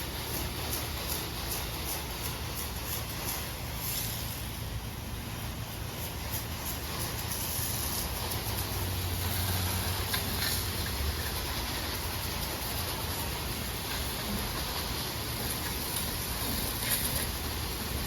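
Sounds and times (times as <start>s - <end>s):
pressure washer engine hum: 0.0s - 18.0s
spray hissing: 0.0s - 18.0s.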